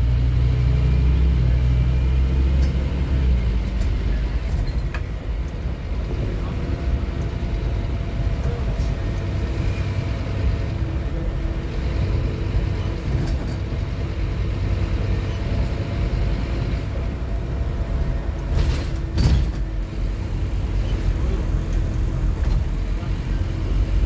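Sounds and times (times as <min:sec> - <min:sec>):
bus diesel engine rumble: 0:00.0 - 0:24.0.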